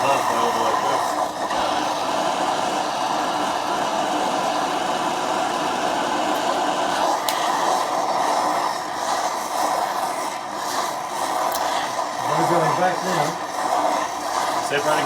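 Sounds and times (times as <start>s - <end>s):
gas torch flame roaring: 0.0s - 15.0s.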